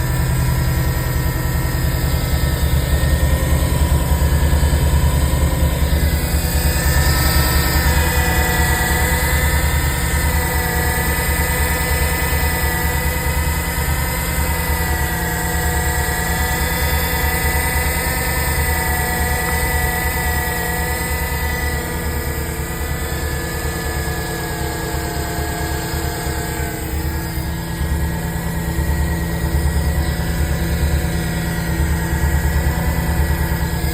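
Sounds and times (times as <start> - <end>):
car engine rumble with whine: 0.0 - 33.9.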